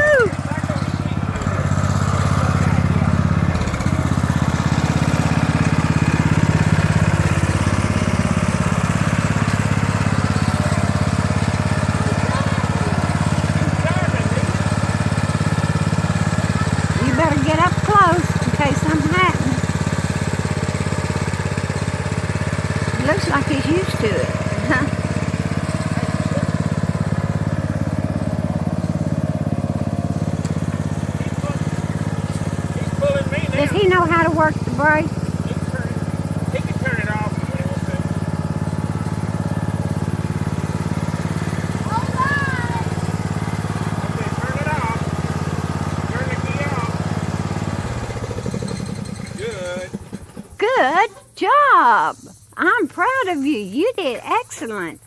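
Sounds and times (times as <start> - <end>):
lawn mower engine puttering: 0.0 - 55.0.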